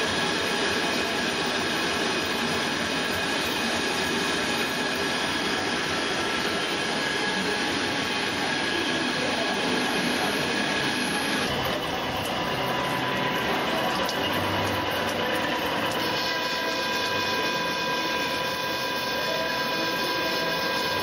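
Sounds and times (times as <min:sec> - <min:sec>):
lathe machining metal: 0:00.0 - 0:21.0.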